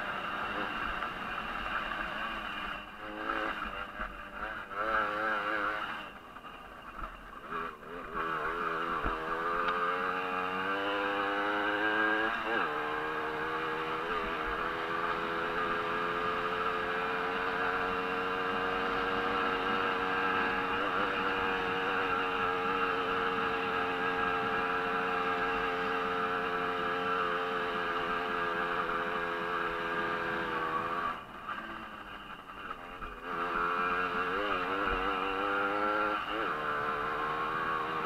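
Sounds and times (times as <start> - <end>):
two-stroke moped engine revving: 0.0 - 6.2, 7.4 - 32.0, 32.6 - 38.0.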